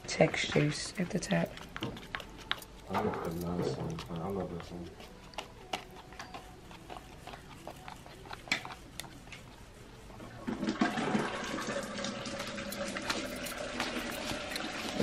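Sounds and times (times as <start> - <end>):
wet churning: 0.0 - 15.0.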